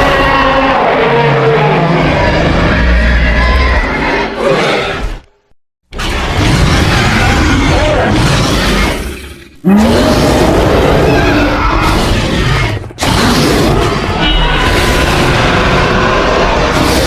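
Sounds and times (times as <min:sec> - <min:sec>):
dinosaur roar: 0:00.0 - 0:05.1, 0:06.1 - 0:17.0.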